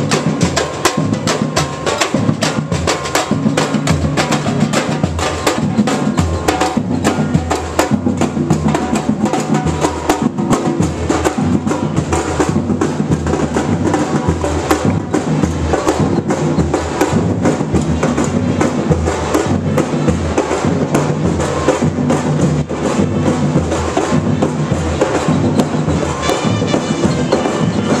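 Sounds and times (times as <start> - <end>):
drums and percussion beat: 0.0 - 28.0
marching band playing: 0.0 - 28.0.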